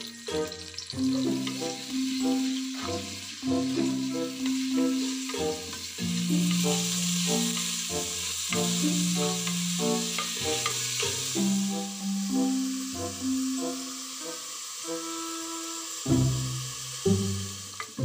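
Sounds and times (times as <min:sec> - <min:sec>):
background music with low notes: 0:00.0 - 0:18.0
meat sizzling in hot oil: 0:00.0 - 0:18.0.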